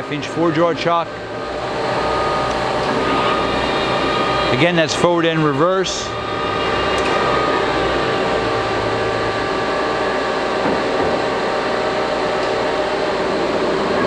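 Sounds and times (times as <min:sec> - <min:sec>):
lathe running: 0:00.0 - 0:14.0
whining gear tones: 0:00.0 - 0:14.0.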